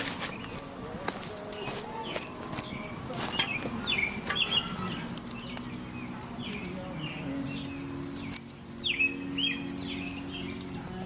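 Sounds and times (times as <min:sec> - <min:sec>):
low steady hum: 0:00.0 - 0:11.0
small birds chirping: 0:00.0 - 0:11.0.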